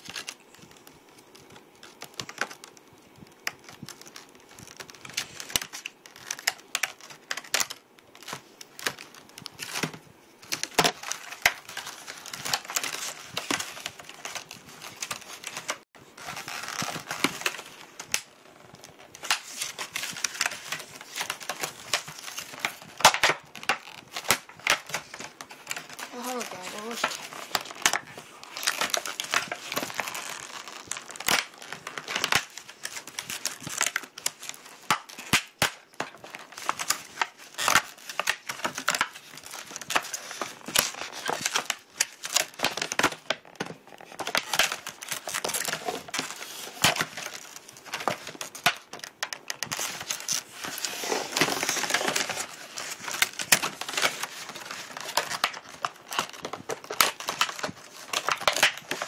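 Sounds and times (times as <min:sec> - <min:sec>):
plastic packaging crinkling and tearing: 0:00.0 - 0:59.0.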